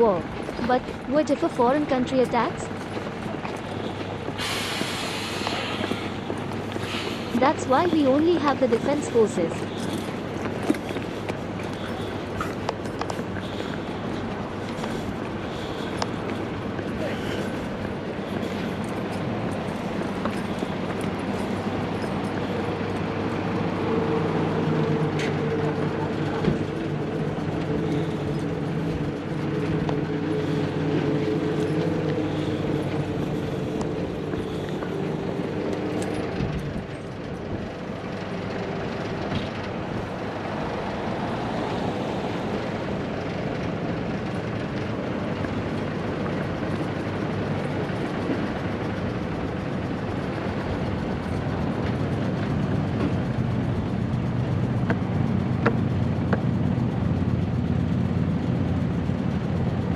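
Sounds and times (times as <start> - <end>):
large vehicle engine hum: 0.0 - 59.9
rushing traffic noise: 0.0 - 59.9.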